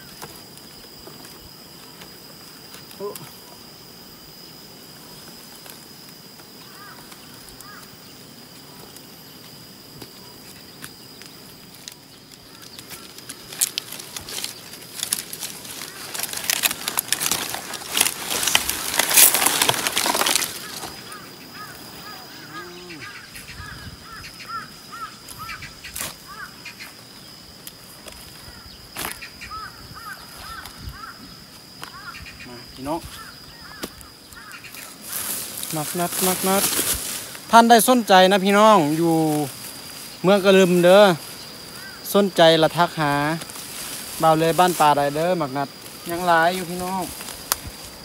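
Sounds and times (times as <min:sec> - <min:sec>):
leaves rustling and snapping: 0:00.0 - 0:03.4, 0:05.2 - 0:21.9, 0:25.0 - 0:27.0, 0:27.6 - 0:32.1, 0:33.1 - 0:48.0.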